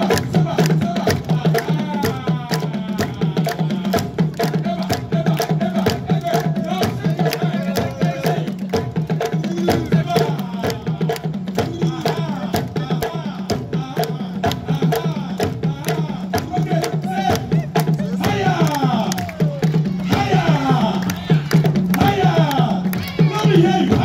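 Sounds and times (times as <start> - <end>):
hand drums playing fast rhythm: 0.0 - 24.0.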